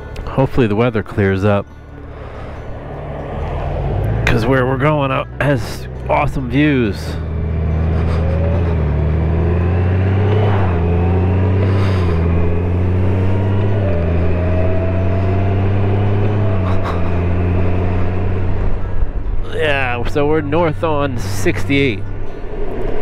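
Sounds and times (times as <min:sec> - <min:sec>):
motorcycle engine accelerating: 0:02.0 - 0:21.3.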